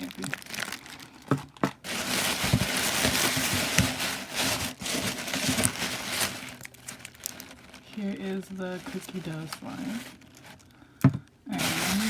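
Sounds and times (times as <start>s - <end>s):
packaging crinkling: 0.0s - 10.7s, 11.5s - 12.0s.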